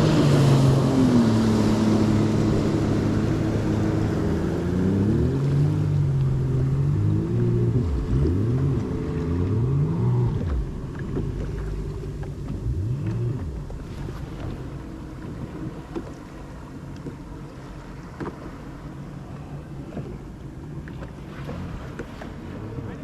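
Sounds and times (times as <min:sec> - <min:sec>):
jet ski engines running: 0:00.0 - 0:23.0.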